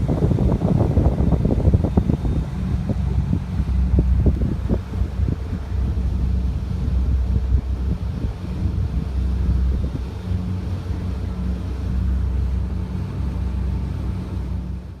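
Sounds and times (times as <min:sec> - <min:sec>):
boat engine humming: 0:00.0 - 0:15.0
wind buffeting microphone: 0:00.0 - 0:15.0.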